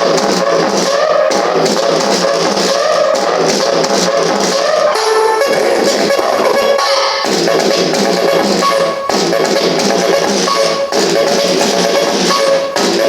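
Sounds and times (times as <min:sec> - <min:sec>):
music through small speakers: 0:00.0 - 0:13.0.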